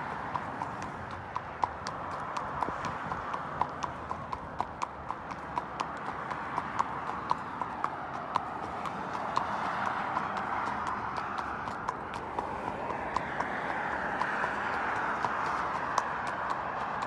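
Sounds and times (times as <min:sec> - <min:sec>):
hooves clip-clopping on tarmac: 0:00.0 - 0:17.0.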